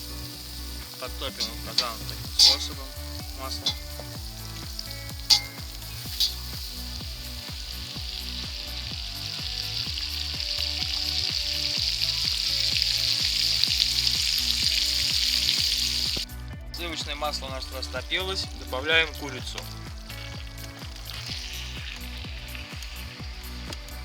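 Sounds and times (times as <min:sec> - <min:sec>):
butter sizzling in a pot: 0:00.0 - 0:24.0.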